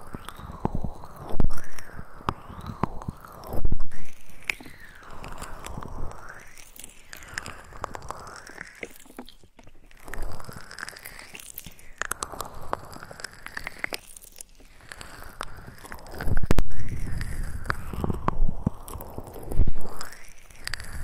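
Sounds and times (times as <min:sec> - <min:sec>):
scratching and rubbing on microphone: 0:00.0 - 0:21.0
small clicks: 0:00.0 - 0:21.0.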